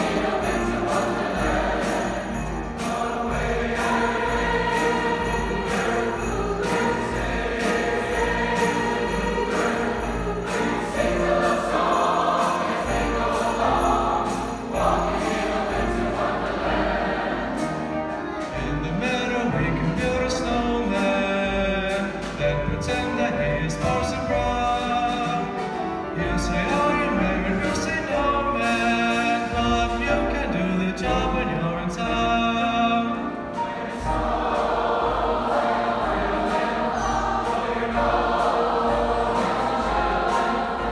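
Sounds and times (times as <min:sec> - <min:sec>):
choir singing: 0:00.0 - 0:40.9
grand piano: 0:00.0 - 0:40.9.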